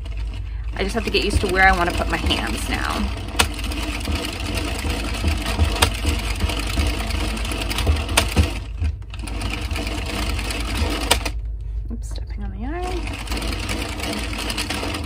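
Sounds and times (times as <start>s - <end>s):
knitting machine needles rattling: 0.0s - 11.4s, 12.7s - 15.0s
sharp clicks of knitting machine: 0.0s - 11.4s, 12.8s - 15.0s.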